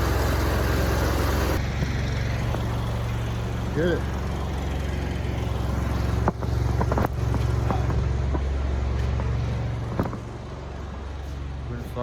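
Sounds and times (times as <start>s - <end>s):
pressure washer engine hum: 0.0s - 12.0s.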